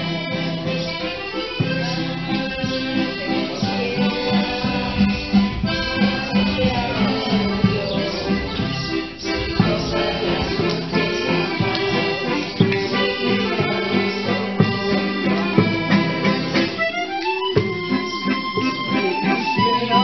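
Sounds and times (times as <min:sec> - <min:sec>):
instrumental music reedy melody: 0:00.0 - 0:20.0.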